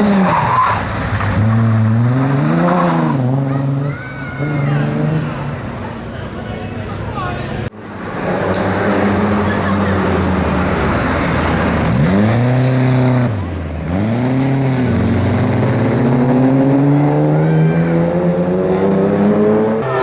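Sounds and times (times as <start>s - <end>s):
rally car engine revving: 0.0s - 6.0s, 7.9s - 20.0s.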